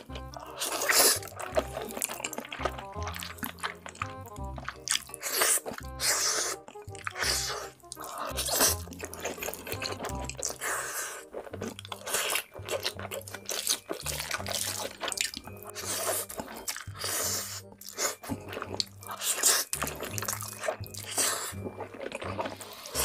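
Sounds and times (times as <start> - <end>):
background music with bass: 0.0 - 23.0
slurping and chewing noodles: 0.0 - 23.0.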